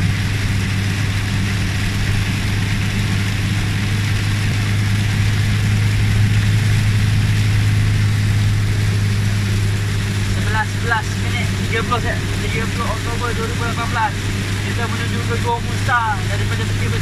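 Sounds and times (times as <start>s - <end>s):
engine and road hum: 0.0s - 17.0s
rain hiss: 0.0s - 17.0s
wet tyres on road: 0.0s - 17.0s.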